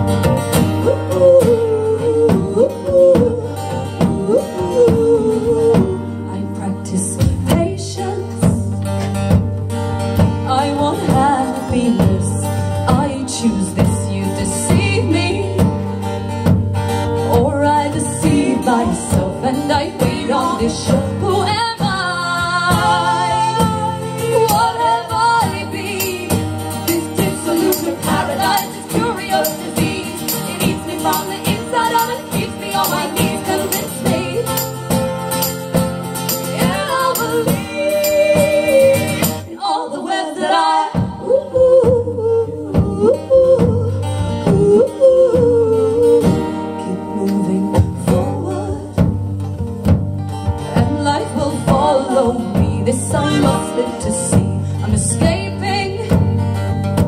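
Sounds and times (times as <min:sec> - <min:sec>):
strummed acoustic guitars: 0:00.0 - 0:57.0
women singing: 0:00.2 - 0:09.0, 0:10.4 - 0:16.4, 0:17.2 - 0:49.3, 0:50.6 - 0:56.6.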